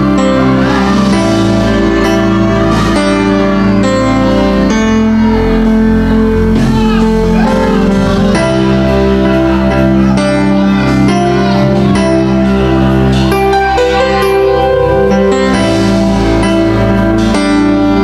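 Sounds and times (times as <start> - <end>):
electric bass guitar: 0.0 - 18.0.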